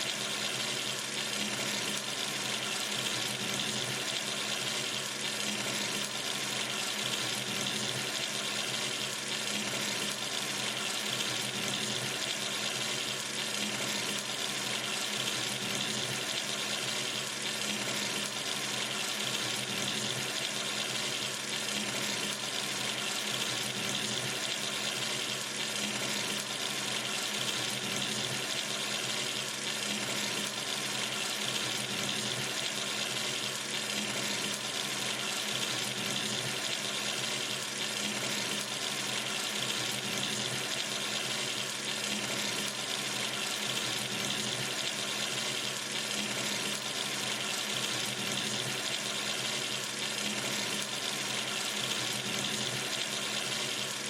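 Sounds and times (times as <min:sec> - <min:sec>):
tap water running into sink: 0:00.0 - 0:54.0.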